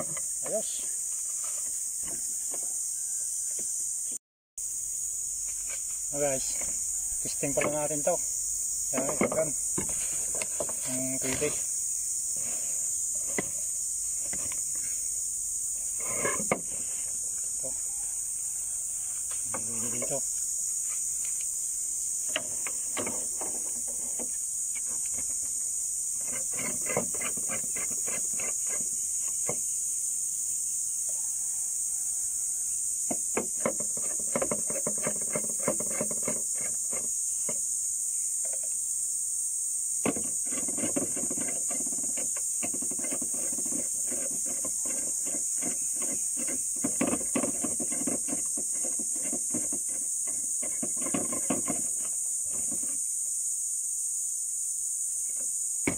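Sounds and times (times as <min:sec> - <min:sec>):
high-pitched insect buzz: 0:00.0 - 0:55.9.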